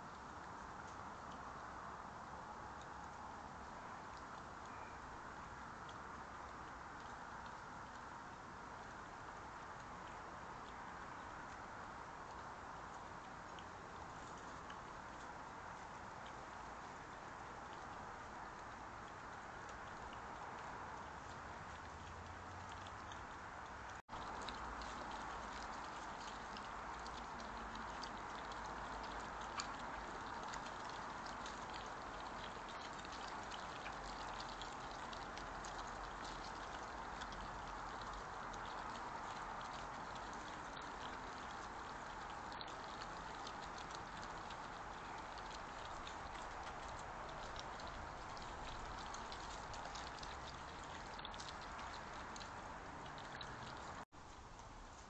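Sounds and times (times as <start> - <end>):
microphone hiss: 0.0 - 55.0
animals crunching food: 9.6 - 55.0.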